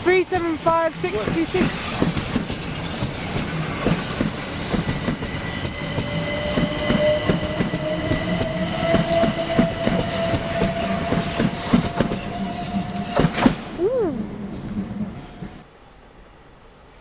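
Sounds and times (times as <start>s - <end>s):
train wheels clicking over joints: 0.0s - 15.6s
train whine: 0.0s - 17.0s.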